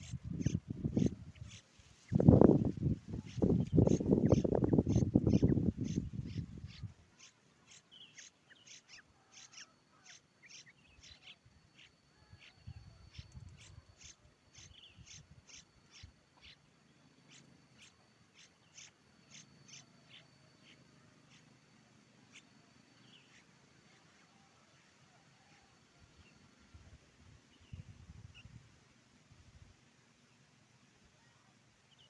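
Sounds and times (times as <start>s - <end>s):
thin high whine: 0.0s - 29.7s.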